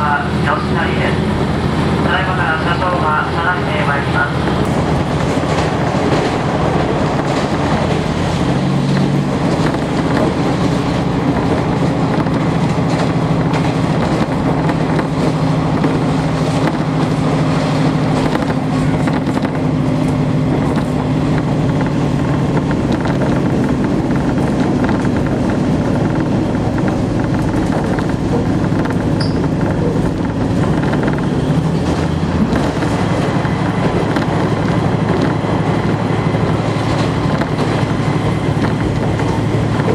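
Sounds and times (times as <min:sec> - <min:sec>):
diesel engine droning: 0:00.0 - 0:39.9
wheels running on rails: 0:02.2 - 0:39.9.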